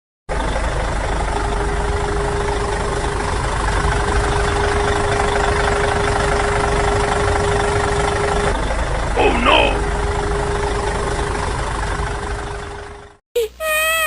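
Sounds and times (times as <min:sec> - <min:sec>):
tractor motor running: 0:00.3 - 0:13.1
steady whining tone: 0:00.4 - 0:13.2.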